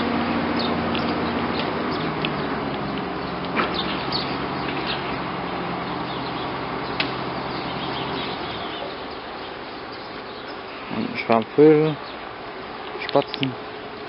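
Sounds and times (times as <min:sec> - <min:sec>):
sparrows chirping: 0:00.0 - 0:14.0
steady low hum and rush: 0:00.0 - 0:14.0.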